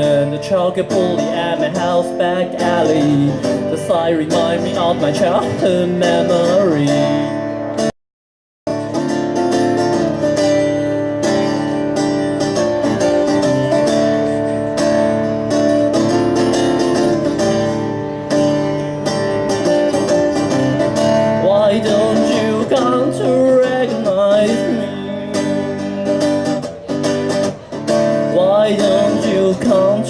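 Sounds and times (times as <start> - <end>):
strummed guitar: 0.0 - 7.9, 8.7 - 30.0.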